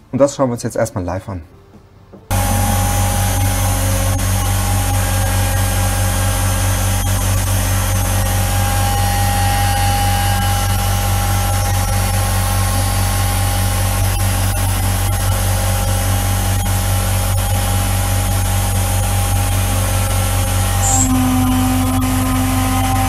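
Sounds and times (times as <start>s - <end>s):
router spindle machining whine: 2.3s - 23.0s.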